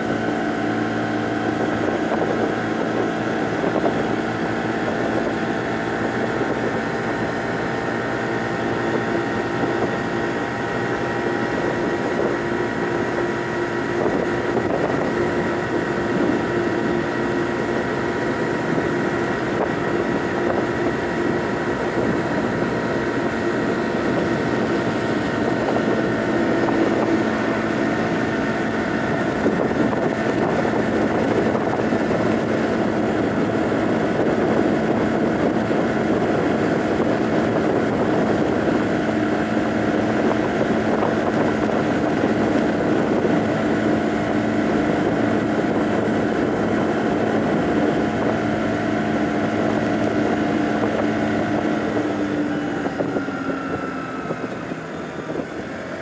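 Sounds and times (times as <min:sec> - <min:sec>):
scooter engine droning: 0:00.0 - 0:56.0
wind noise: 0:00.0 - 0:56.0.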